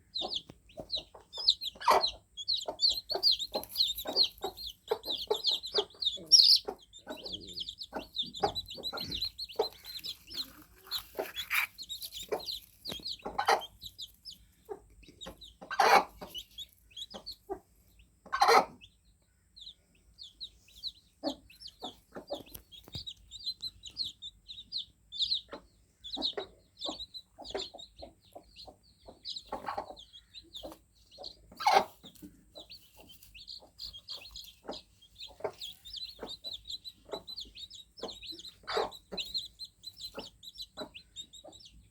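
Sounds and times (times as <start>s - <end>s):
chicks cheeping: 0.0s - 41.9s.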